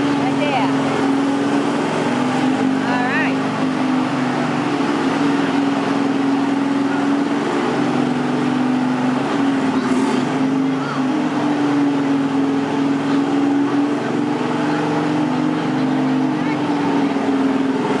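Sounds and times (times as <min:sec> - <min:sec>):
lawn mower engine under load: 0:00.0 - 0:18.0.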